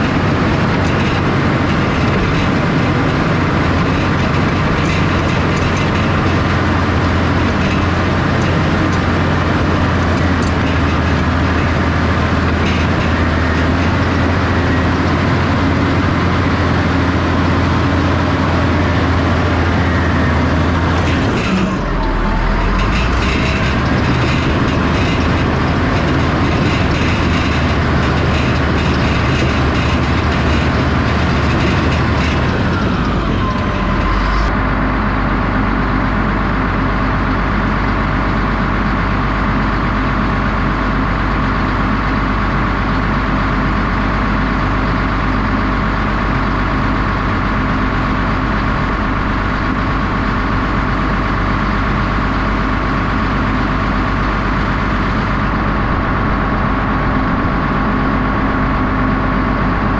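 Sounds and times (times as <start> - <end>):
bulldozer diesel engine: 0.0 - 59.9
engine whine: 0.0 - 59.9.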